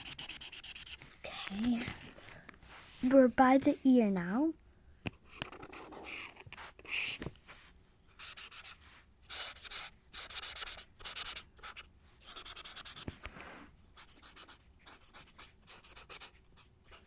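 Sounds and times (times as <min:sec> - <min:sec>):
marker scratching on paper: 0:00.0 - 0:01.8, 0:05.2 - 0:17.0.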